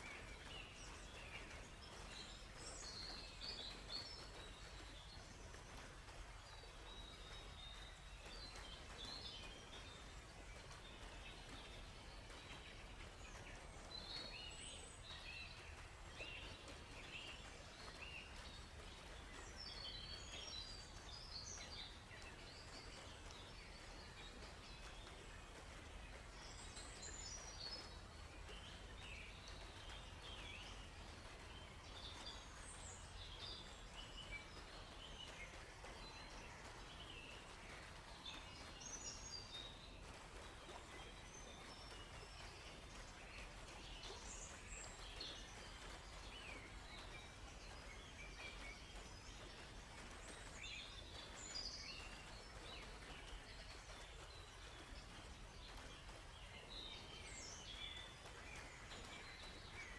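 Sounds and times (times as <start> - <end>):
low background hiss: 0.0 - 59.9
songbirds chirping and trilling: 0.0 - 59.9.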